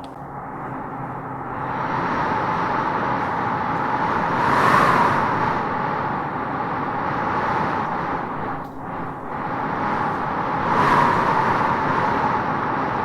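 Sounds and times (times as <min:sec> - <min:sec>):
howling wind through trees: 0:00.0 - 0:13.0.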